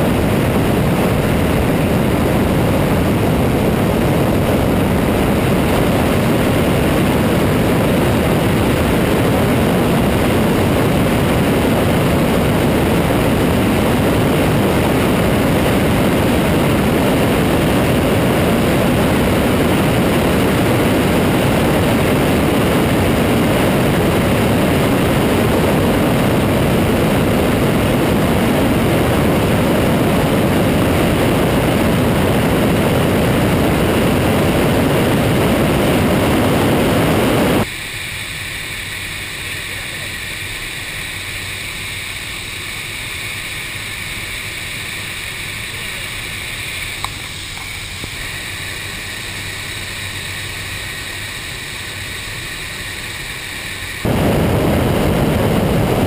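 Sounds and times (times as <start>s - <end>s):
loud rushing wind: 0.0s - 37.8s, 41.2s - 56.0s
low hum: 0.0s - 56.0s
turboprop engine drone: 0.0s - 56.0s.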